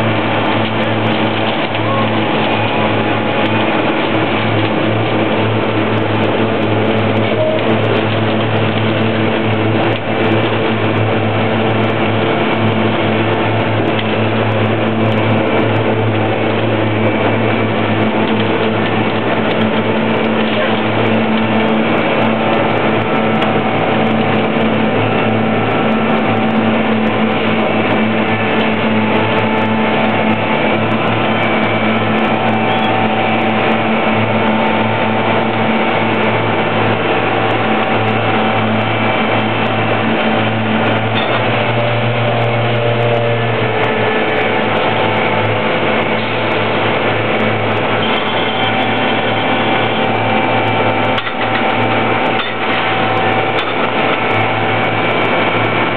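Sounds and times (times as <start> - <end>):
machine drone: 0.0 - 55.9
whining hydraulic tones: 0.0 - 55.9.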